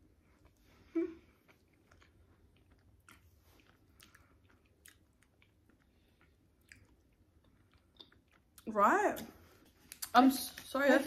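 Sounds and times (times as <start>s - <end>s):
people chewing with mouth smacks: 0.0s - 10.2s.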